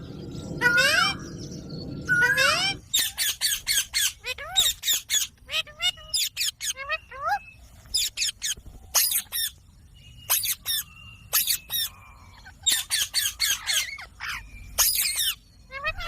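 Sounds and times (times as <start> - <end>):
parrot squawking: 0.6 - 1.3, 2.1 - 9.6, 10.3 - 16.0.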